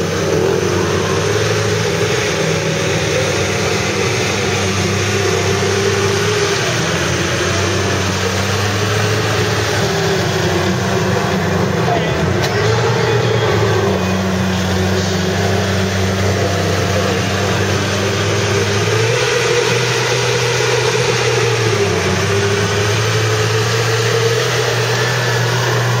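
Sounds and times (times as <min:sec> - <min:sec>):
atv engines idling: 0:00.0 - 0:26.0.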